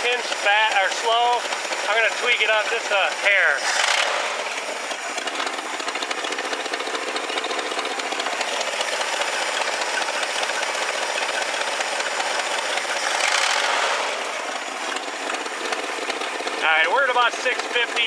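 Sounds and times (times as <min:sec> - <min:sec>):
engine idling with ticking clatter: 0:00.0 - 0:18.0.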